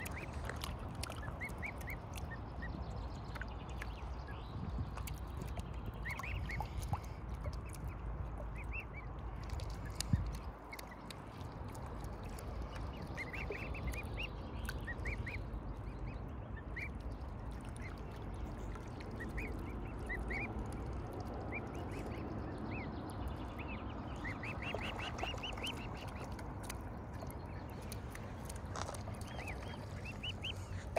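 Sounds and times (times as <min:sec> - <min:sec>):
cygnets peeping: 0:00.0 - 0:30.9
low steady rumble: 0:00.0 - 0:30.9.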